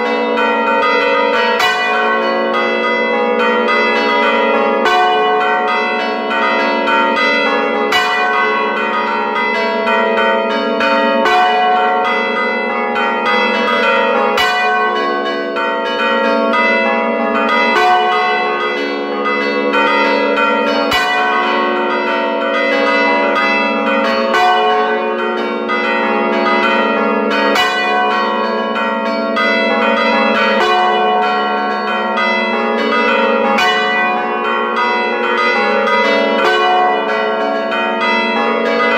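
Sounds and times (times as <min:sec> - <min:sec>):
large church bell striking: 0:00.0 - 0:38.9.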